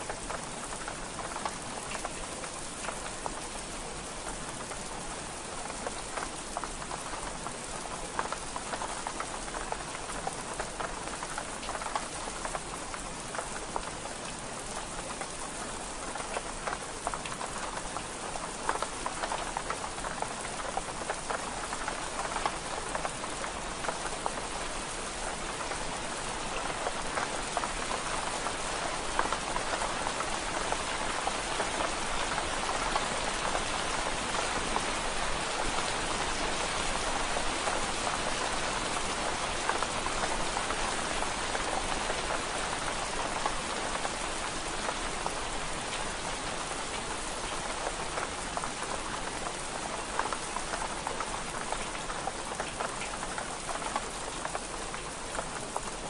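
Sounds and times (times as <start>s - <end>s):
rain pattering on window glass: 0.0s - 56.0s.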